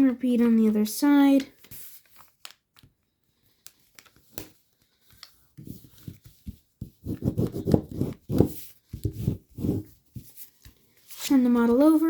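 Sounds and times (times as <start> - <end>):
paper rustling and creasing: 0.2 - 12.0.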